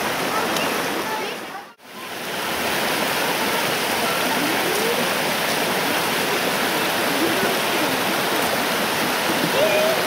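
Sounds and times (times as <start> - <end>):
brook running over stones: 0.0 - 10.0.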